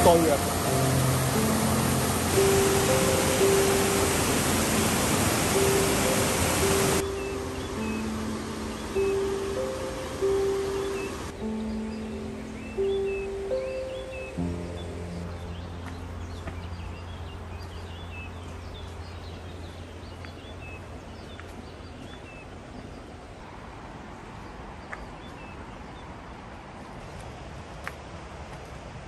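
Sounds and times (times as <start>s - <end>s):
small birds chirping: 0.0s - 23.5s, 24.3s - 26.4s
outdoor background rush: 0.0s - 29.0s.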